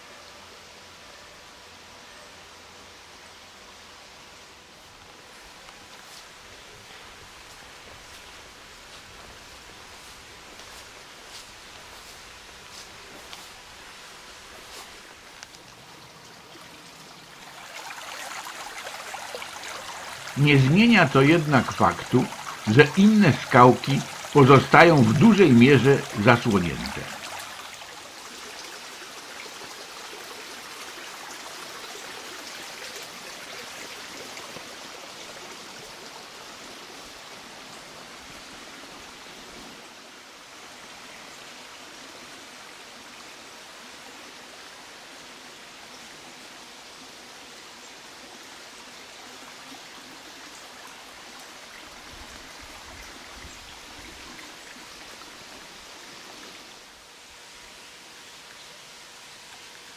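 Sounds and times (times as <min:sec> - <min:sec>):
stream babbling: 0:00.0 - 0:59.9.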